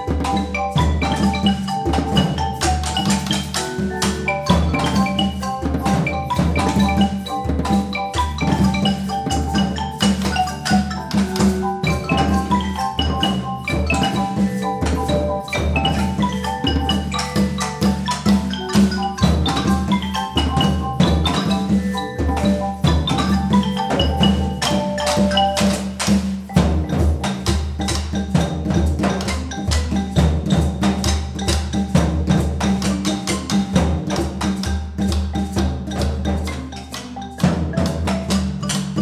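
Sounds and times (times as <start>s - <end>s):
marimba mallet notes: 0.0s - 39.0s
steady drum beat: 0.0s - 39.0s.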